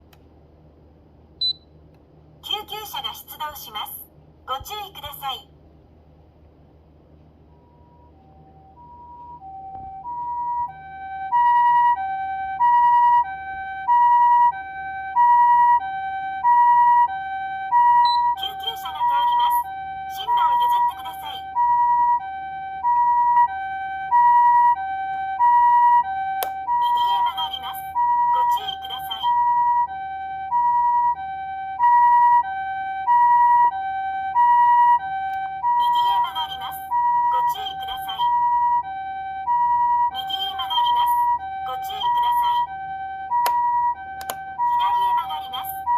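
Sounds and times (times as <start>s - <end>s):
two-tone ambulance siren: 7.4s - 45.9s.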